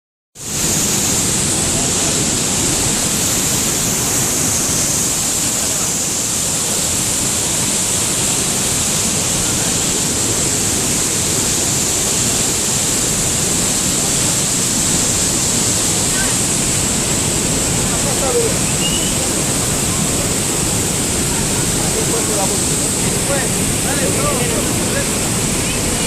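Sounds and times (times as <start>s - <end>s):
waterfall crashing: 0.4s - 26.0s.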